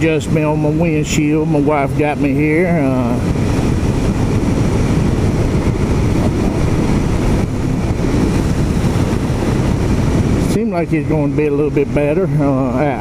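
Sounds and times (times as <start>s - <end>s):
motorcycle engine running: 0.0s - 11.1s
wind rush: 0.0s - 13.0s.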